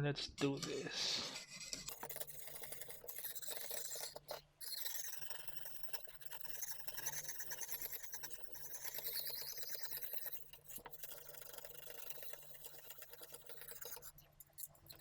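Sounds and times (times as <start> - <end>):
sharpening stone scraping knife edge: 1.2 - 15.0.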